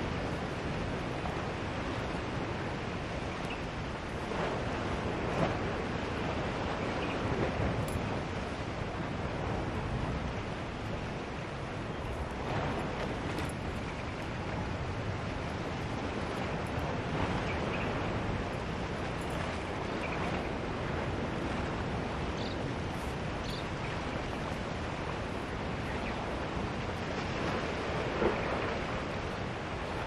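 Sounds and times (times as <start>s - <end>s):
ocean surf: 0.0s - 30.0s
wind: 0.0s - 30.0s.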